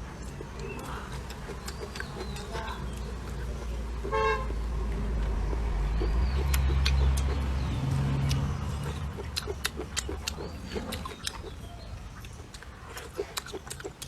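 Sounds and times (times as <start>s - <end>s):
low vehicle rumble: 0.0s - 13.1s
wet smacking and chewing: 0.0s - 14.0s.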